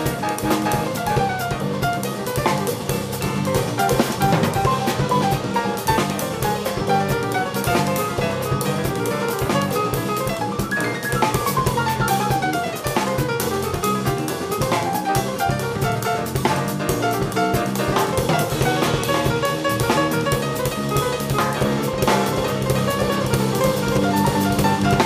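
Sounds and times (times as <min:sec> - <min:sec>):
drum kit with cymbals: 0:00.0 - 0:25.0
electric bass guitar: 0:00.0 - 0:25.0
grand piano: 0:00.0 - 0:25.0.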